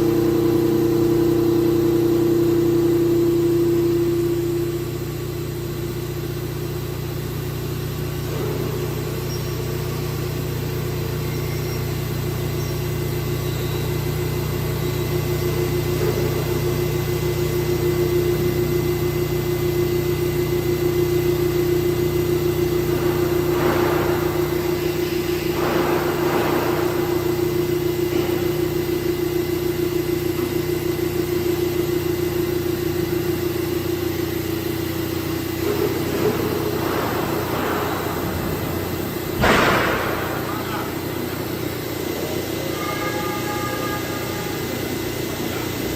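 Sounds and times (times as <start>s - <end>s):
machining centre whining: 0.0s - 45.9s.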